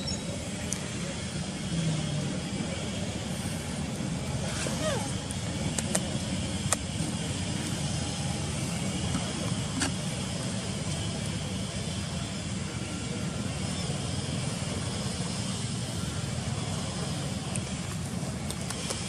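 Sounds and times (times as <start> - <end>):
outdoor rumble and hiss: 0.0 - 19.0.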